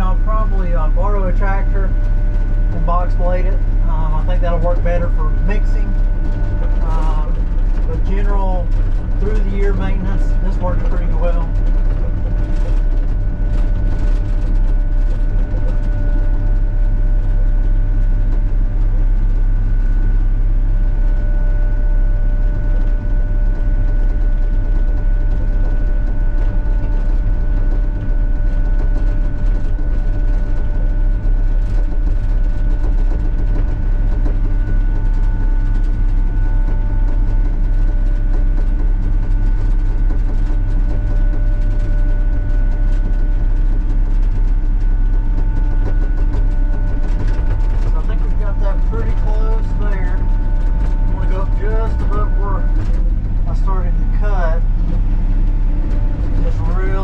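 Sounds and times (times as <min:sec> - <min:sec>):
excavator diesel engine running: 0:00.0 - 0:57.0
high whine: 0:00.0 - 0:57.0.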